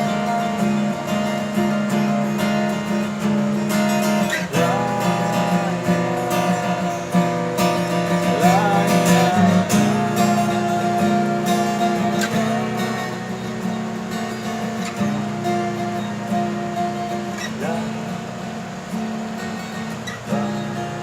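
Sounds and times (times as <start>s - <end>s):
acoustic guitar strumming chords: 0.0s - 21.0s
high held sliding melody: 0.0s - 21.0s.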